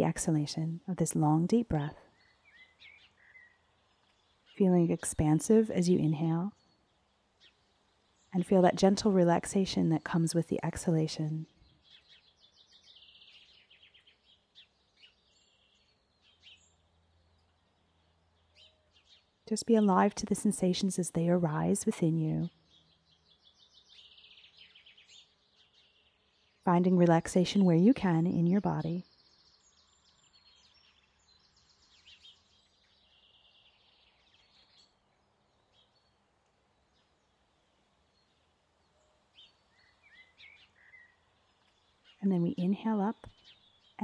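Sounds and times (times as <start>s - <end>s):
faint birdsong: 0.0s - 44.0s
quiet background hiss: 0.0s - 44.0s
songbirds chirping and trilling: 0.0s - 44.0s.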